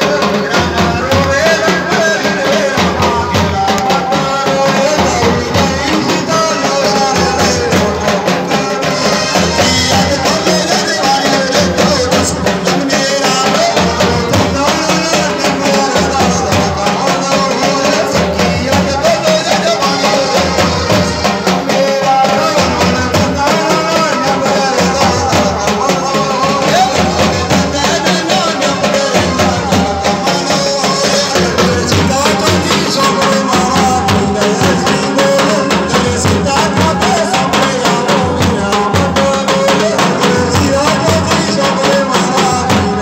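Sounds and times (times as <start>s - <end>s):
dhol drum beat: 0.0s - 43.0s
men singing: 0.0s - 43.0s.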